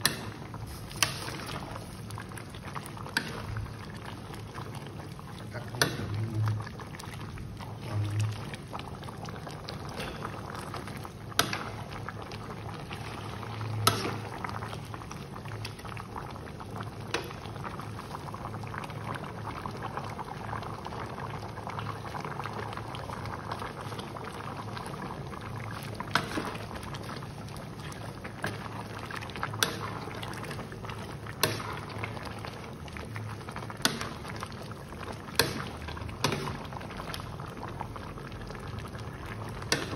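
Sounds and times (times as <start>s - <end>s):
soup bubbling in a pot: 0.0s - 39.9s.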